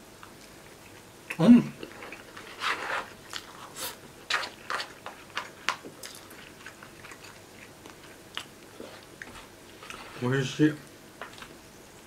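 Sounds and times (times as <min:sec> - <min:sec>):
man chewing food: 0:00.0 - 0:10.2, 0:10.8 - 0:12.0.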